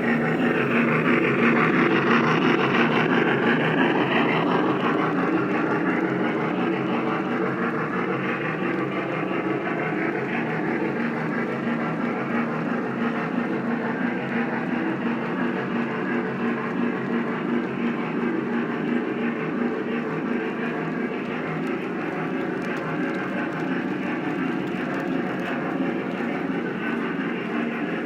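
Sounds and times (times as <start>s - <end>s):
model train rolling rumble: 0.0s - 28.0s.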